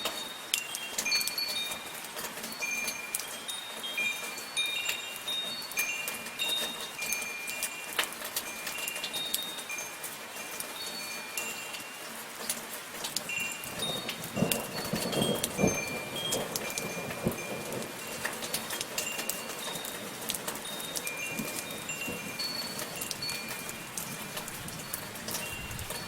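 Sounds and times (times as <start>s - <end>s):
soft rain: 0.0s - 26.0s
wind chimes tinkling: 0.0s - 26.0s.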